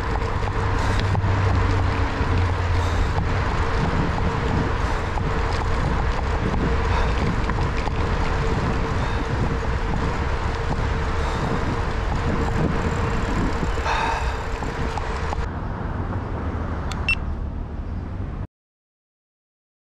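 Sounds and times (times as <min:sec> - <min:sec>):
tyres rolling on pavement: 0:00.0 - 0:16.8
wind on microphone: 0:00.0 - 0:17.1.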